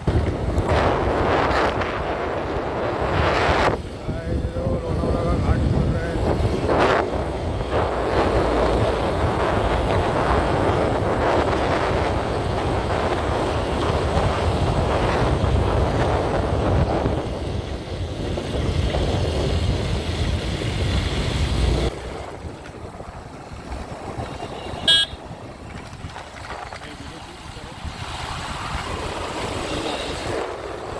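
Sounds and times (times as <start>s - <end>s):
motorcycle engine rumbling: 0.0s - 30.9s
wind rushing over microphone: 0.0s - 30.9s.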